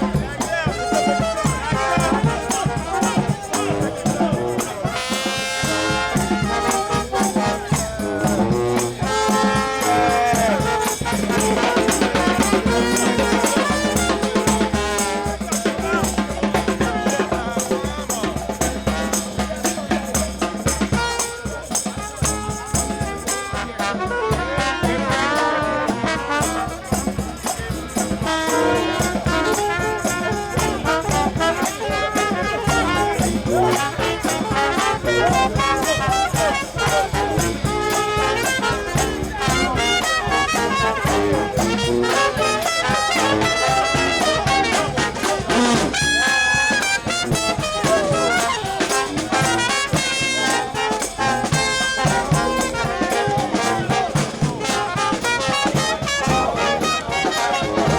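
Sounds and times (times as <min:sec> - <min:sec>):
bass drum beat: 0:00.0 - 0:57.9
trumpets and trombones: 0:00.0 - 0:57.9.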